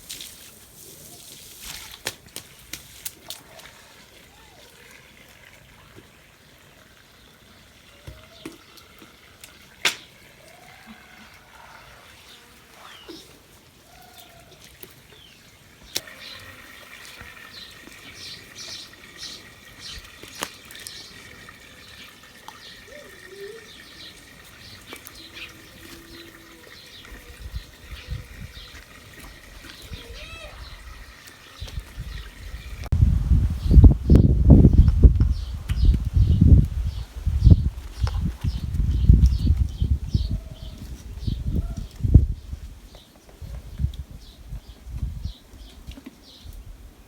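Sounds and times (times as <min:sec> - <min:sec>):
water running and trickling: 0:00.0 - 0:42.7.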